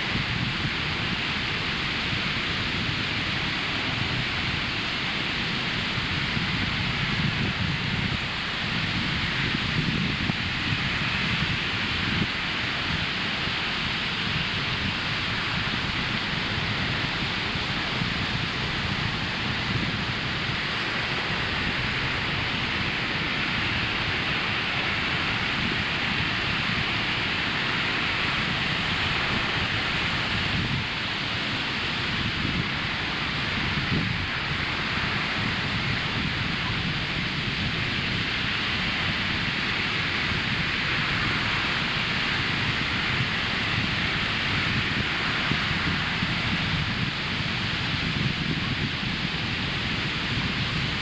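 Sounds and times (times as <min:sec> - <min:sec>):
ocean surf on a beach: 0:00.0 - 0:51.0.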